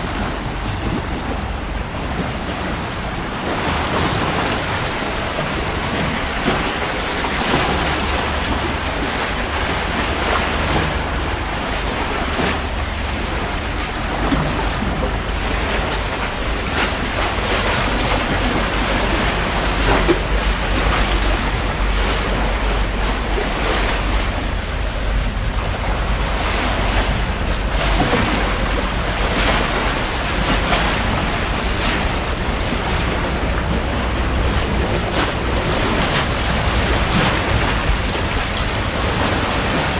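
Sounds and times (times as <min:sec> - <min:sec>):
waves washing on shore: 0:00.0 - 0:39.9
wind buffeting microphone: 0:00.0 - 0:39.9.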